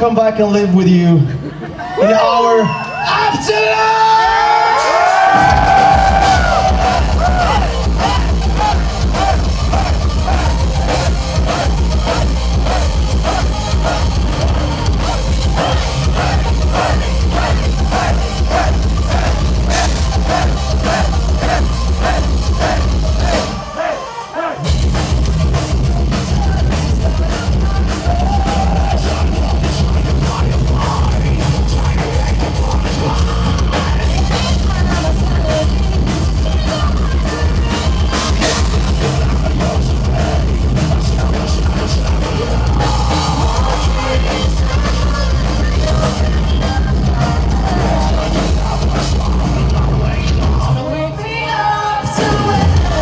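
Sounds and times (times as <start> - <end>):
heavy metal band playing: 3.2 - 53.0
pounding drum kit: 3.3 - 50.8, 52.0 - 53.0
person singing: 5.3 - 53.0.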